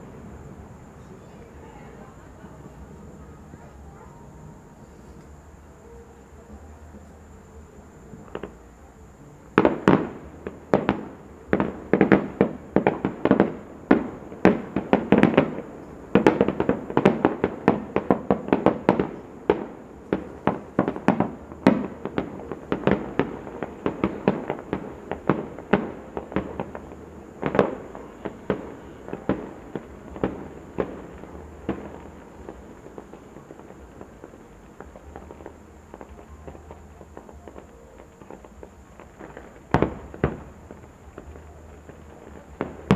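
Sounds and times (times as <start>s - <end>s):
fireworks bursts and bangs: 0.0s - 5.4s, 8.0s - 42.9s.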